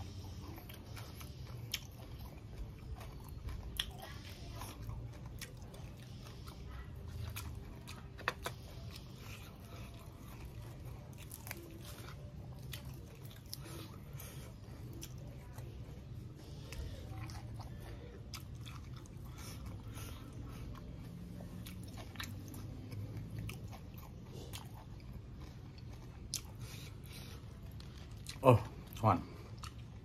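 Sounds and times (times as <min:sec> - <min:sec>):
person chewing crunchy greens: 0:00.0 - 0:30.0.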